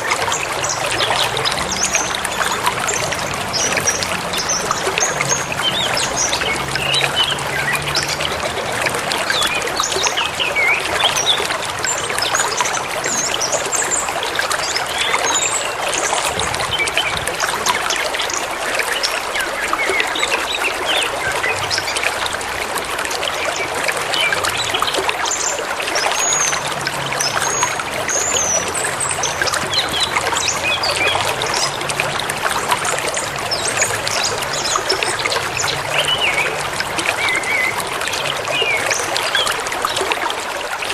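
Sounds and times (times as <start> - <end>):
river running: 0.0 - 40.9.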